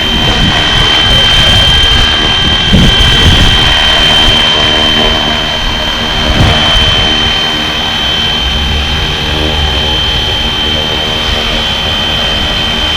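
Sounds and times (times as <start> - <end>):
low rumble: 0.0 - 12.9
rc helicopter rotor whine: 0.0 - 12.9.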